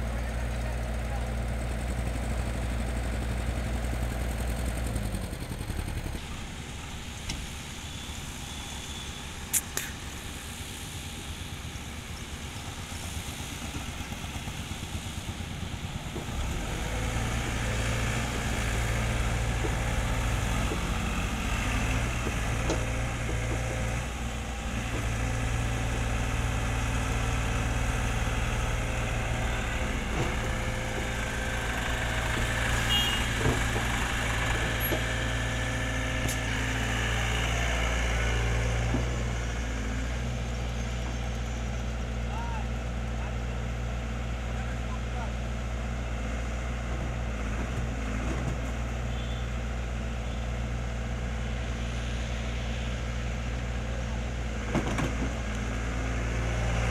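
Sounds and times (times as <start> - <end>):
diesel engines running: 0.0 - 56.9.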